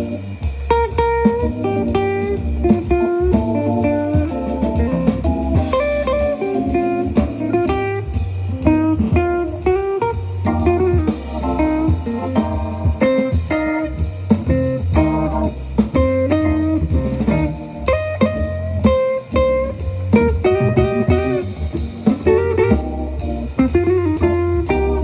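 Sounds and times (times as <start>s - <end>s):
blues guitar music from speaker: 0.0s - 25.0s
heavy bass line: 0.0s - 25.0s.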